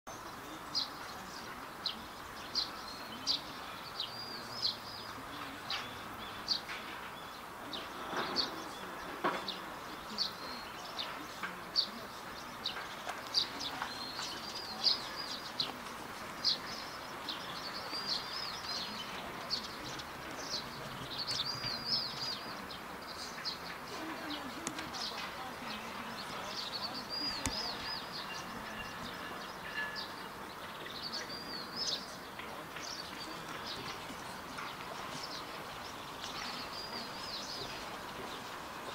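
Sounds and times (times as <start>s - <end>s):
faint steady background noise: 0.1s - 38.9s
small birds chirping: 0.1s - 38.9s.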